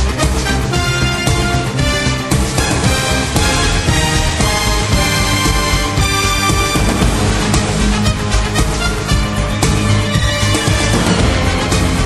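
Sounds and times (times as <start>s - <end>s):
loud music with heavy bass: 0.0s - 12.0s.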